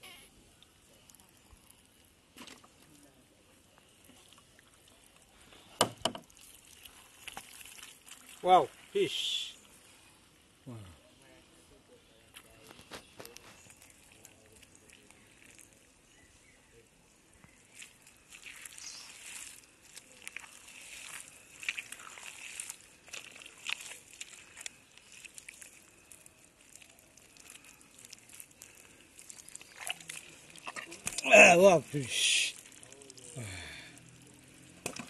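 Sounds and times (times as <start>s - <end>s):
hands squelching through wet mud: 3.8s - 9.9s, 12.4s - 16.7s, 17.3s - 35.0s.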